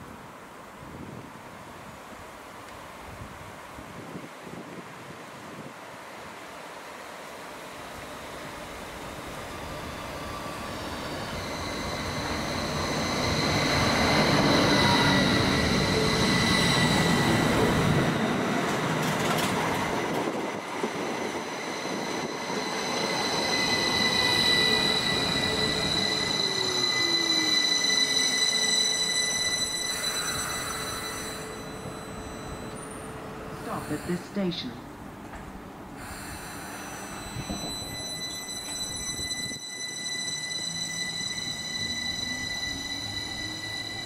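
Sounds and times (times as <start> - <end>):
electric train running past: 1.8 - 44.0.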